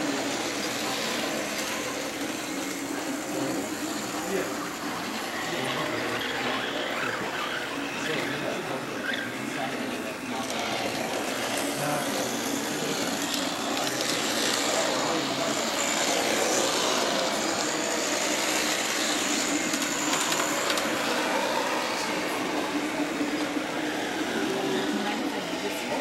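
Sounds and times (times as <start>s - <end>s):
exhibition hall din: 0.0s - 26.0s.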